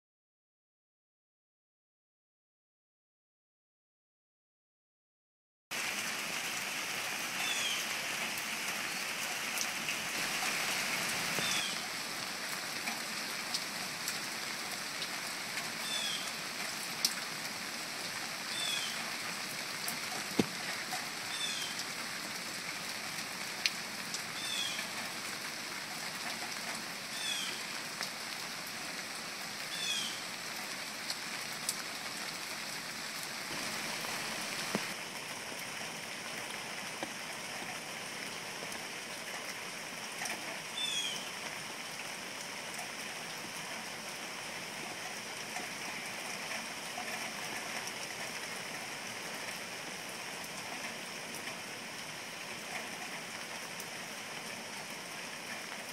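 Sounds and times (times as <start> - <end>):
steady rain hiss: 5.7 - 55.9.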